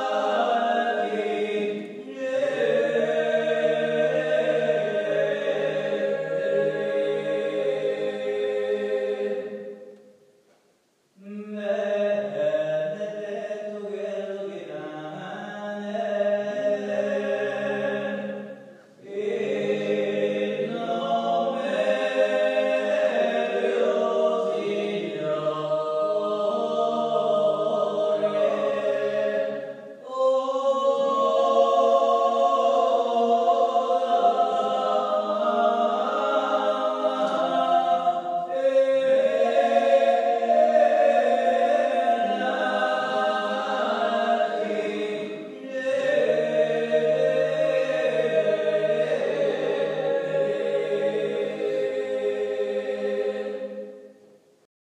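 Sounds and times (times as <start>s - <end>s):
a cappella choir chanting: 0.0s - 10.2s, 11.2s - 54.7s.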